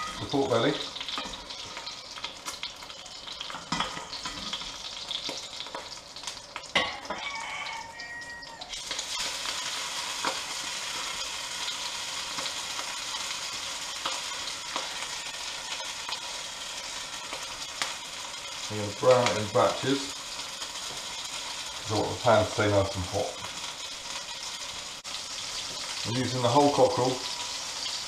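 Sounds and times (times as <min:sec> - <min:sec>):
meat sizzling in fat: 0:00.0 - 0:28.0.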